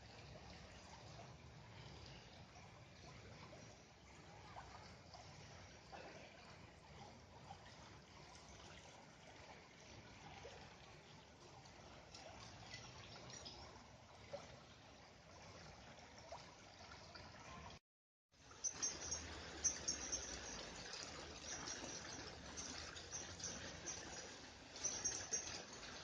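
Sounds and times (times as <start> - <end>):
stream trickling: 0.0 - 26.0.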